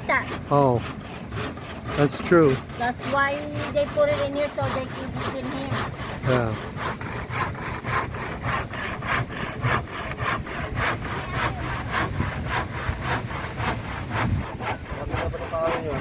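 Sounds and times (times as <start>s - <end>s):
hand saw cutting wood: 0.0s - 16.0s.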